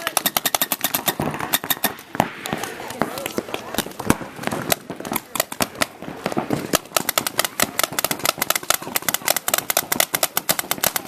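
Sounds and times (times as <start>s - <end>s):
paintball markers firing: 0.0s - 11.0s.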